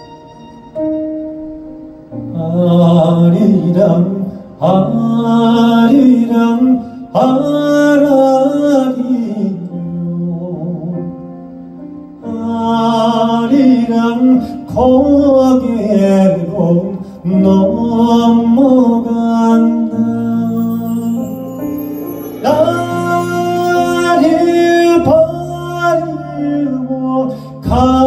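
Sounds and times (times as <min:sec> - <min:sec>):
soft held accompaniment: 0:00.0 - 0:28.0
man singing into a microphone: 0:02.3 - 0:11.2, 0:12.2 - 0:28.0.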